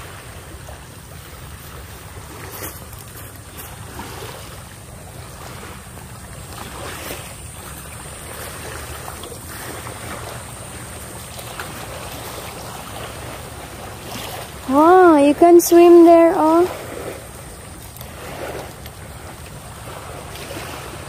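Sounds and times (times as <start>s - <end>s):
waves washing on shore: 0.0s - 21.0s.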